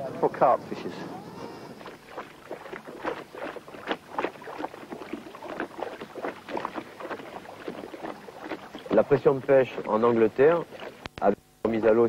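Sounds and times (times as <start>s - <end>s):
water lapping against boat hull: 0.9s - 11.3s.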